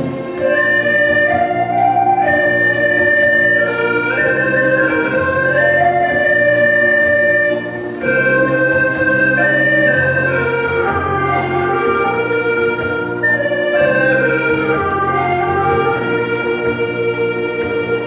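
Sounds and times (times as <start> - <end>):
gourd flutes and bamboo flute melody: 0.0 - 18.0
steady low drone: 0.0 - 18.0.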